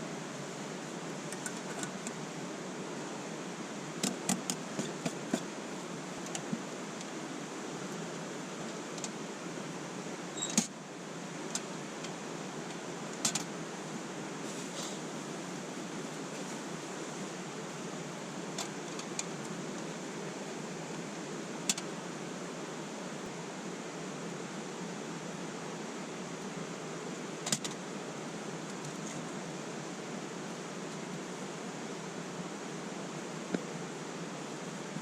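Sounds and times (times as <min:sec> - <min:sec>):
stream rushing: 0:00.0 - 0:35.0.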